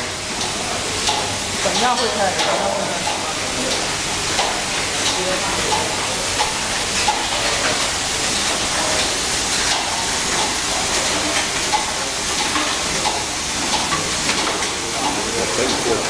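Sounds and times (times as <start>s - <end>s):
eggs clicking on conveyor: 0.0s - 16.0s.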